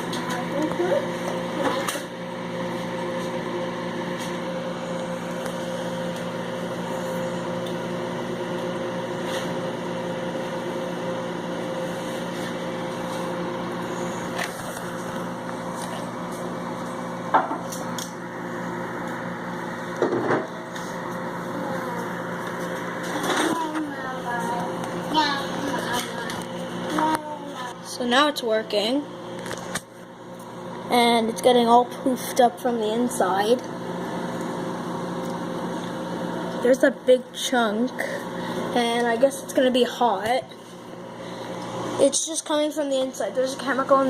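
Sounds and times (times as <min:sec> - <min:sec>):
microwave oven humming: 0:00.0 - 0:44.0.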